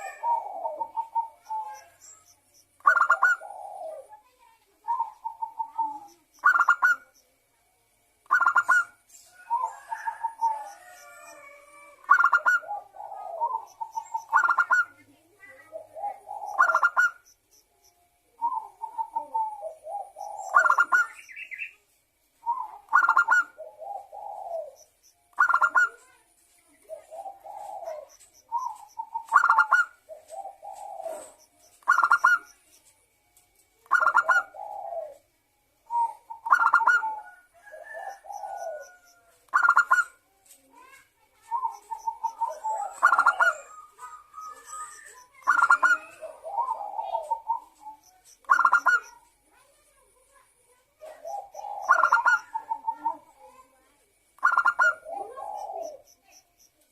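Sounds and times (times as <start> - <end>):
dove cooing: 0.0 - 2.0, 2.8 - 4.2, 4.8 - 7.1, 8.3 - 17.2, 18.3 - 21.7, 22.4 - 26.2, 26.8 - 32.6, 33.8 - 40.2, 40.8 - 49.3, 51.0 - 56.3.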